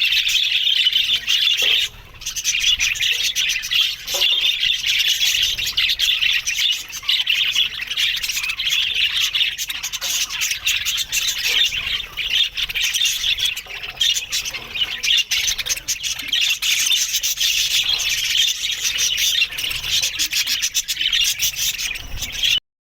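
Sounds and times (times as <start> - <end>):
budgerigars chattering: 0.0 - 22.6.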